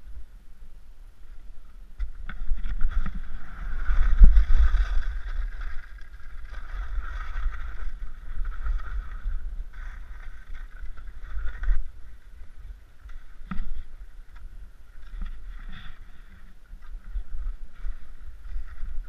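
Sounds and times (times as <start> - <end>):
wind buffeting microphone: 1.9 - 19.0
skis scraping through snow: 2.5 - 19.0.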